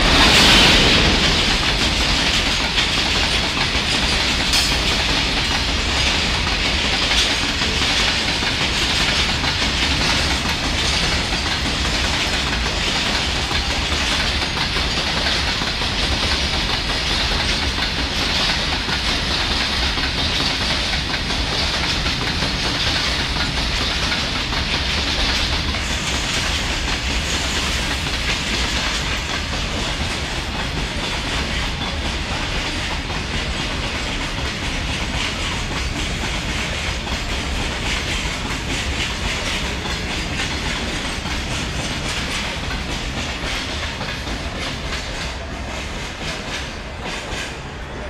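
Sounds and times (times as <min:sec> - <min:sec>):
freight train running past: 0:00.0 - 0:48.0.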